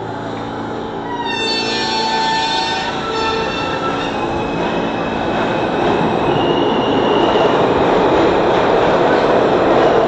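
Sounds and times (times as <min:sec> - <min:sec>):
subway train pulling out: 0:00.0 - 0:10.0.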